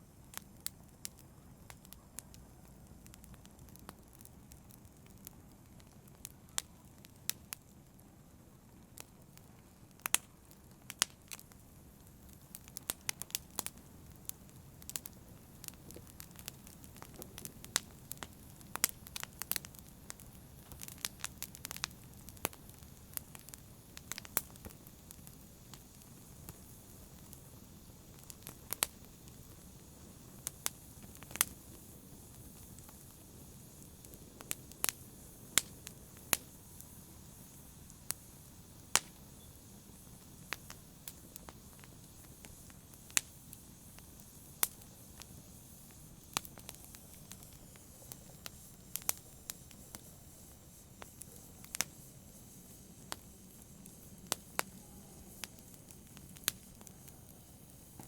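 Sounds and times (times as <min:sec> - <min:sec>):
fire crackling and popping: 0:00.0 - 0:58.0
fire hissing: 0:00.0 - 0:58.0.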